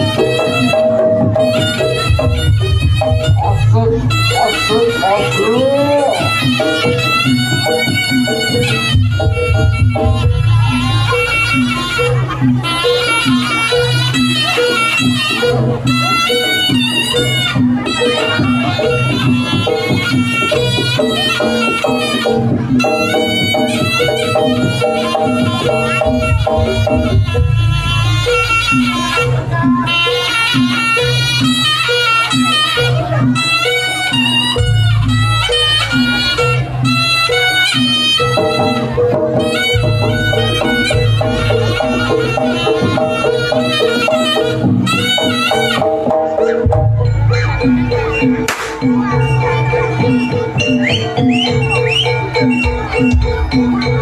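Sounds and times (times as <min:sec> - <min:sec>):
steady drum beat: 0:00.0 - 0:12.8, 0:15.1 - 0:30.0, 0:34.1 - 0:54.0
metallophone notes: 0:00.0 - 0:54.0
nasal reed shawm melody: 0:00.0 - 0:54.0.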